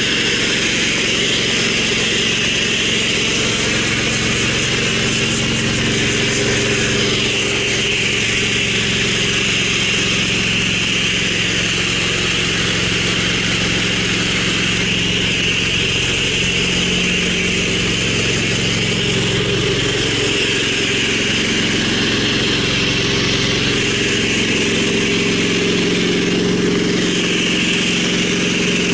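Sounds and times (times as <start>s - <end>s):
pressure washer engine running: 0.0s - 28.9s
water spray hissing on concrete: 0.0s - 28.9s.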